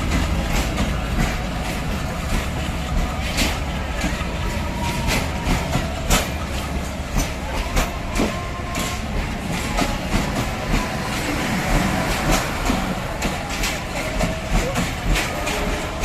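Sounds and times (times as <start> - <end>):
train wheels clacking on rails: 0.0 - 16.0.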